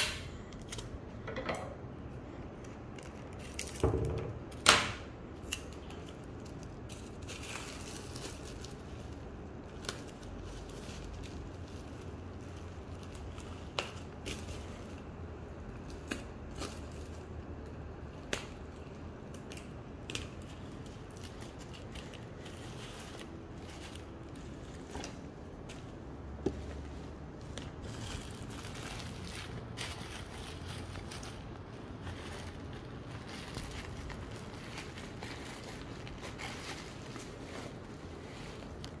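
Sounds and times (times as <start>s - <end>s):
bubble wrap crackles: 2.0s - 39.0s
bubble wrap crinkling: 2.0s - 39.0s.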